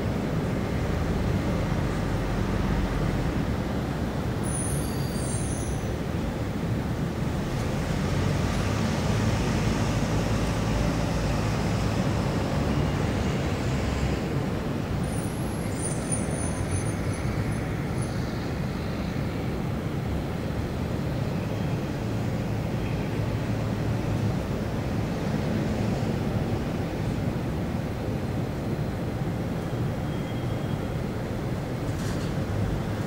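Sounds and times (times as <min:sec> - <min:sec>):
traffic rumble: 0:05.2 - 0:33.0.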